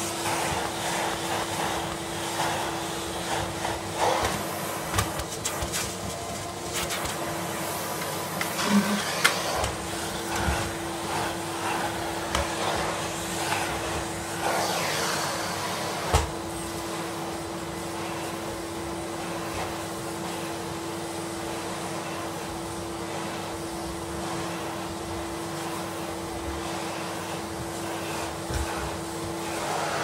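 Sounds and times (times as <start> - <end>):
floor tool pushed over carpet: 0.0 - 30.0
vacuum cleaner motor hum: 0.0 - 30.0.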